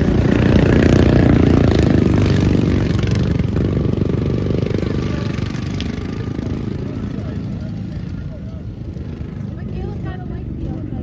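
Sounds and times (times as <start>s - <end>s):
racing lawnmower engines: 0.0s - 11.0s.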